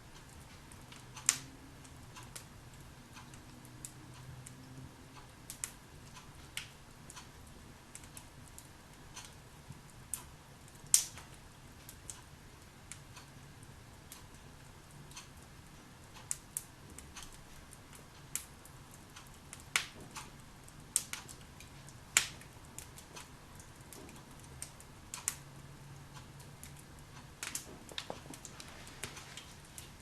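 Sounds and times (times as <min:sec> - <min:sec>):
faint steady hiss: 0:00.0 - 0:30.0
log fire crackling: 0:00.0 - 0:30.0.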